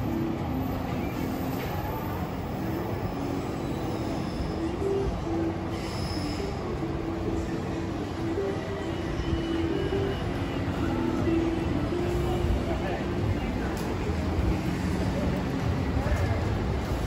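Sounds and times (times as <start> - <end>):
shopping street ambience: 0.0 - 17.0
simple tune from shop: 0.0 - 17.0.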